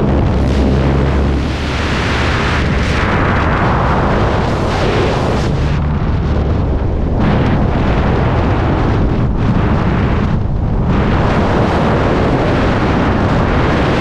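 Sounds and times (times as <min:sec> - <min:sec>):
plane engine and propeller drone: 0:00.0 - 0:14.0
wind rush buffeting microphone: 0:00.0 - 0:14.0.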